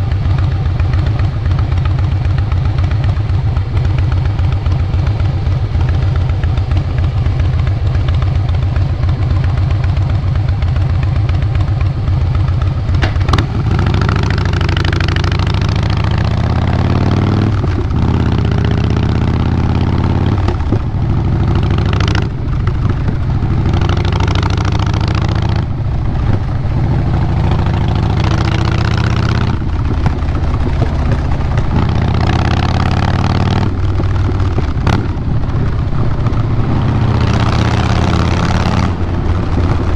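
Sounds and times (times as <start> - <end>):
motorcycle engine fast low pulsing: 0.0 - 39.9.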